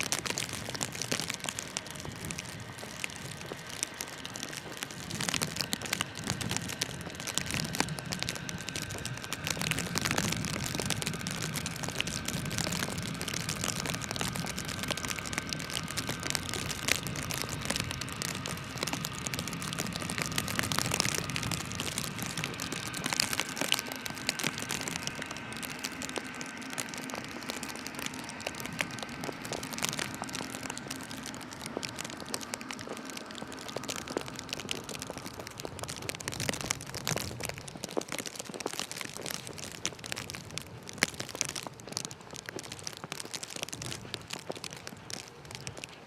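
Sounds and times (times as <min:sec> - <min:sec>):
city background hum: 0:00.0 - 0:46.0.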